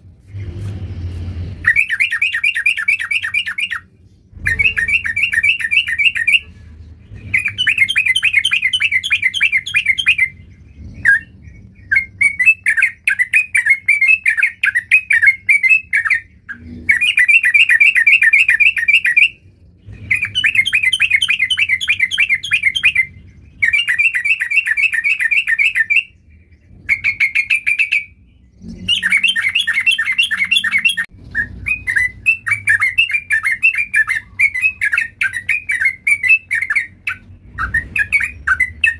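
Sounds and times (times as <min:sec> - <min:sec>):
bird singing bubbly chattering: 0:01.6 - 0:06.4, 0:07.0 - 0:38.9.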